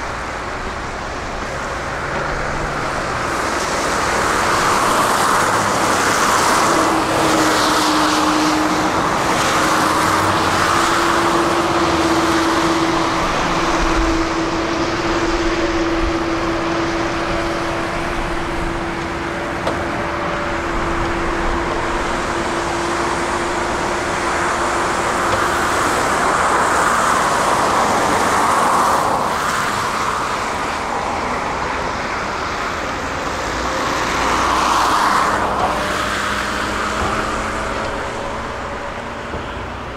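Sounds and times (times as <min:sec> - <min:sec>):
diesel machinery engine: 0:00.0 - 0:39.9.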